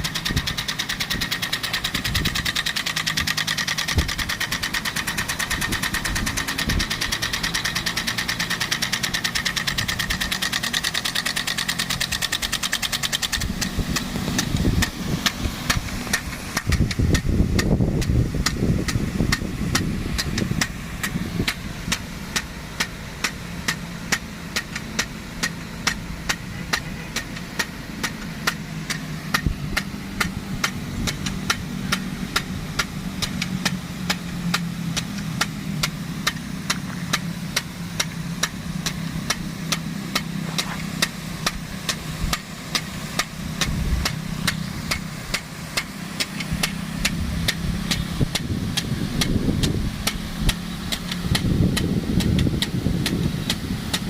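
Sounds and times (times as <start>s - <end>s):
sprinkler clacking: 0.0s - 54.0s
water pump engine running: 0.0s - 54.0s.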